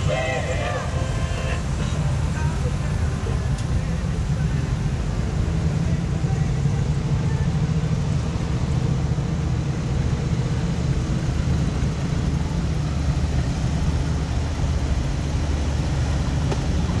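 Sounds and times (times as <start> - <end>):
car engines idling and rolling past: 0.0 - 17.0.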